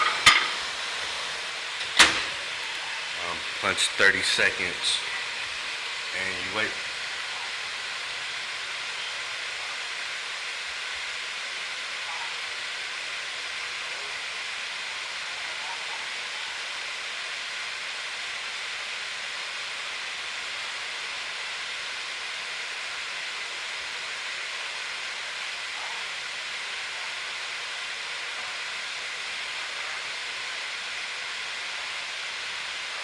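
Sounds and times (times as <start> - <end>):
microwave fan hiss: 0.0 - 33.0.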